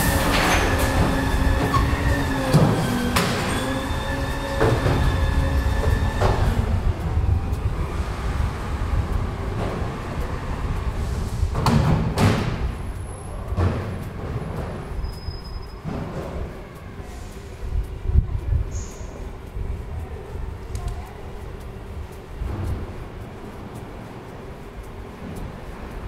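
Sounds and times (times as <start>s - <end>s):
heavy traffic rumble: 0.0s - 26.0s
vehicle whine: 0.0s - 26.0s.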